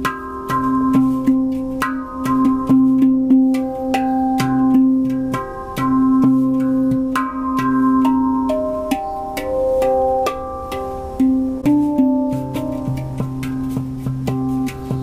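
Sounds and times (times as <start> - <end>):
handpan notes ringing: 0.0 - 15.0.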